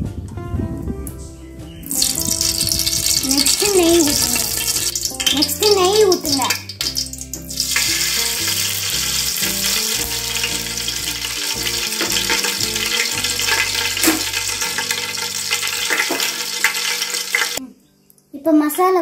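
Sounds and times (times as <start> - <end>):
background music: 0.0 - 17.7
oil sizzling and crackling in pot: 1.8 - 17.6.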